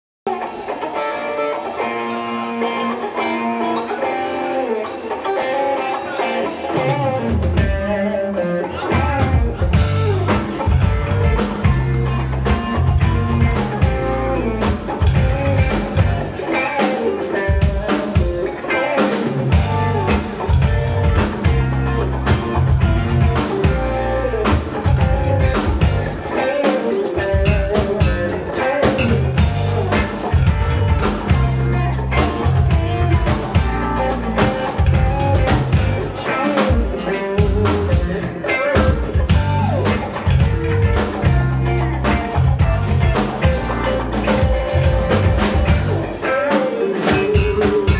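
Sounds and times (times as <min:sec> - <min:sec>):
rock band playing: 0:00.2 - 0:47.9
guitar playing: 0:00.3 - 0:47.9.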